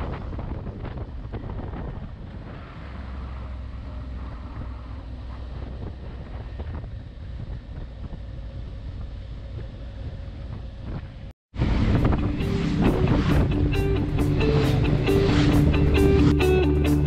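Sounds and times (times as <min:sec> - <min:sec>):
wind buffeting microphone: 0:00.0 - 0:16.2
motorcycle engine rumble: 0:00.0 - 0:17.0.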